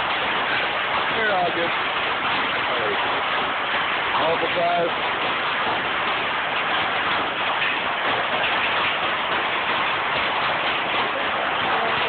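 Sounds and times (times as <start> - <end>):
heavy hail and rain pelting: 0.0 - 12.0.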